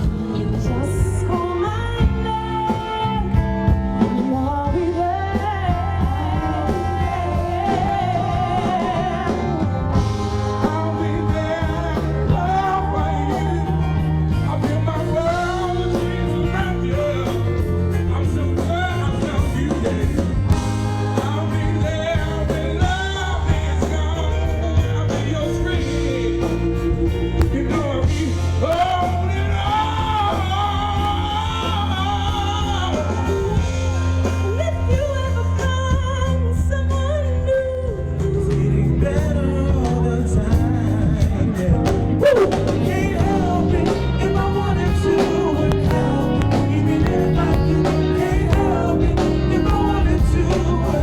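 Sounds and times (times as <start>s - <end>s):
bass line: 0.0s - 51.0s.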